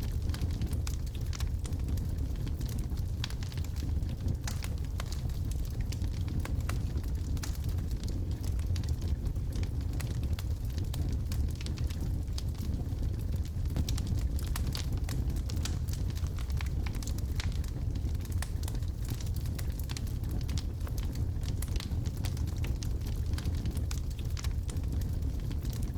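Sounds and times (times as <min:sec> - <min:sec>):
fire crackles and pops: 0:00.0 - 0:25.9
low rumble of flames: 0:00.0 - 0:25.9.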